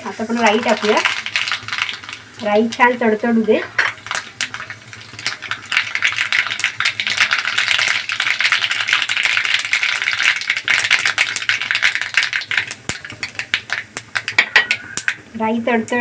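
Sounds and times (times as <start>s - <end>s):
seeds crackling in hot oil: 0.0s - 16.0s.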